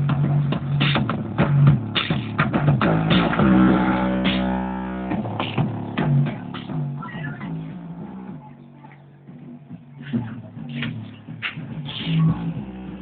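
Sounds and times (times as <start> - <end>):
rock music on car stereo: 0.0 - 13.0.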